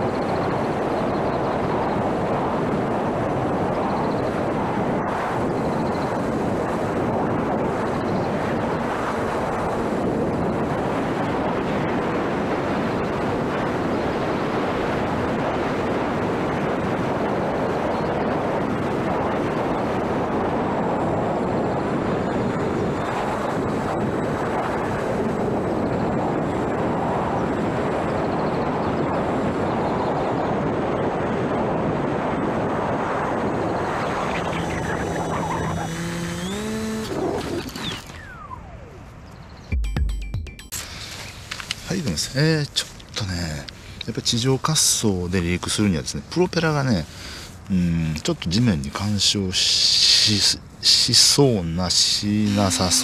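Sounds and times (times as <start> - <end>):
wind on microphone: 0.0 - 39.7, 50.2 - 53.0.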